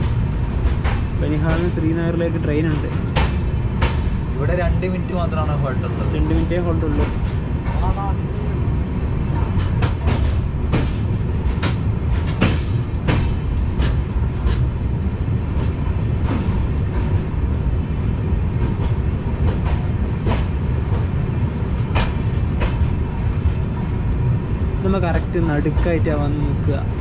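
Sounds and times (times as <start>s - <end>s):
wheels clanking over rail joints: 0.0s - 8.2s, 9.2s - 27.0s
train low rumble: 0.0s - 27.0s.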